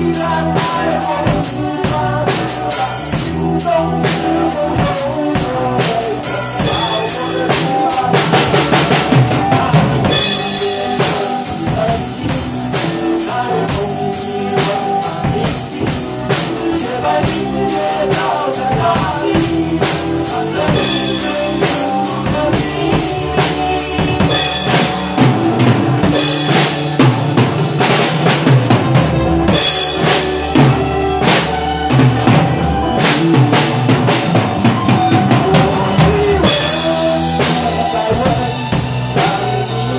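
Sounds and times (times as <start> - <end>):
rock band backing track: 0.0 - 39.9.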